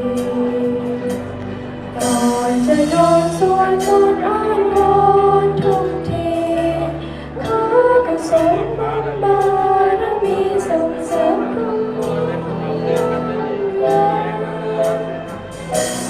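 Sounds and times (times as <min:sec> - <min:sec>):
instrumental accompaniment: 0:00.0 - 0:16.0
person singing: 0:00.0 - 0:16.0.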